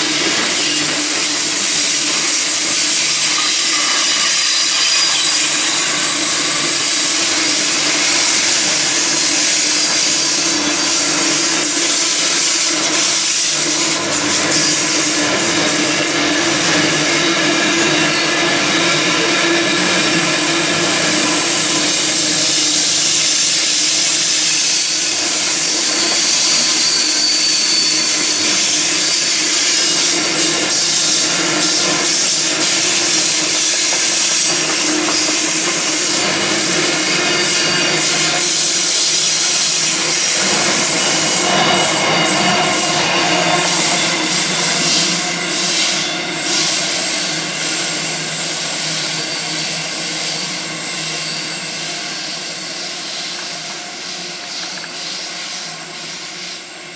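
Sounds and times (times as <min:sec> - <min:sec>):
train wagons rolling past: 0:00.0 - 0:50.6
wheel squeal: 0:00.0 - 0:56.9.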